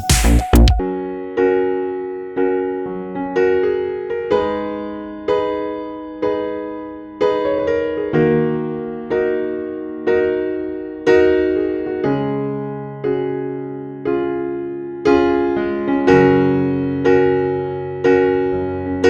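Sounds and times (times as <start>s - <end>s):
slow electric piano tune: 0.0s - 19.0s.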